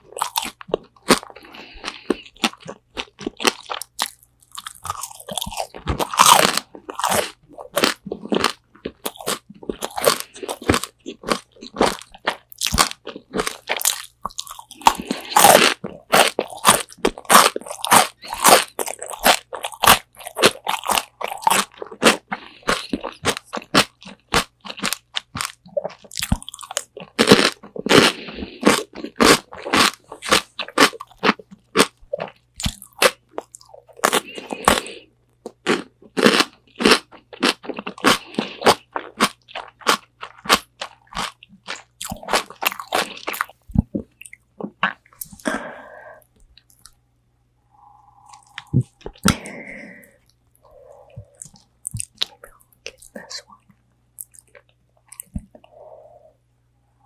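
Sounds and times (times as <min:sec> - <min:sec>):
crunchy chewing: 0:00.0 - 0:47.0, 0:47.7 - 0:56.2.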